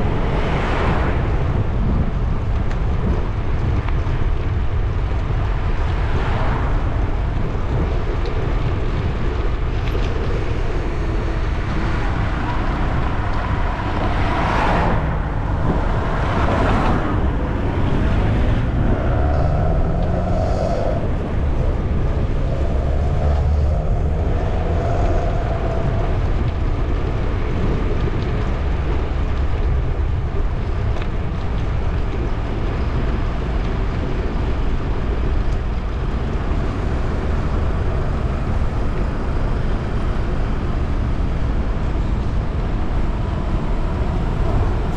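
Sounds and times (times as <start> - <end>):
bicycle road noise: 0.0 - 44.9
street traffic passing: 0.0 - 44.9
wind buffeting microphone: 0.0 - 44.9.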